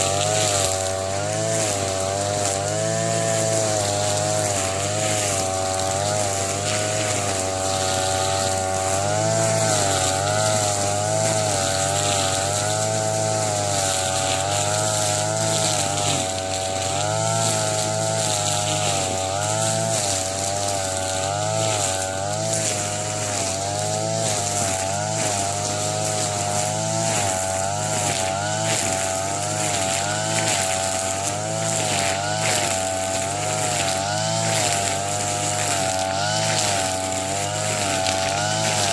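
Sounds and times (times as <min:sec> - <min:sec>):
brush cutter at high revs: 0:00.0 - 0:38.9.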